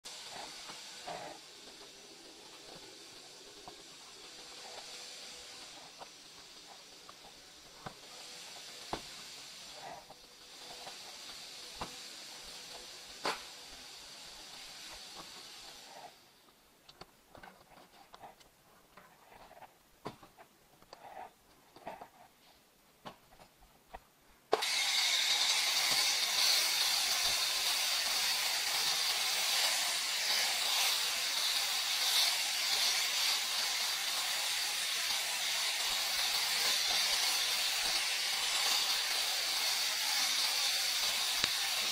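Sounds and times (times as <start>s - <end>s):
foam sprayer hissing: 0.0s - 16.4s, 24.5s - 41.9s
faint hiss: 0.0s - 41.9s.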